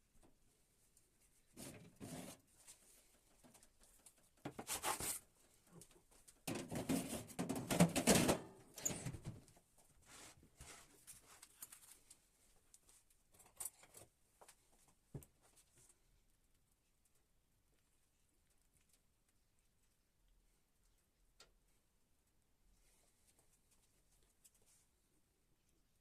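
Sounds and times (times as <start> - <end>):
rustling and handling noise: 0.0 - 26.0.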